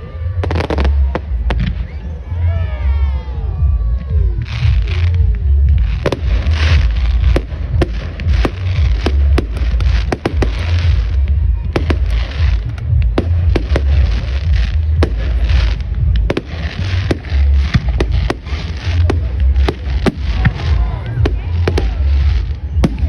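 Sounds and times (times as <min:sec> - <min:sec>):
fireworks cracks and bangs: 0:00.0 - 0:02.4, 0:03.6 - 0:23.0
deep rumble: 0:00.0 - 0:23.0
fireworks hissing: 0:04.4 - 0:23.0.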